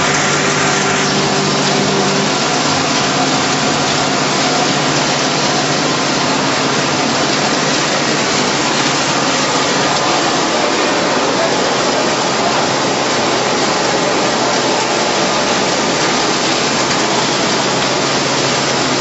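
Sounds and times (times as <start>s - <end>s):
industrial machinery running: 0.0s - 19.0s.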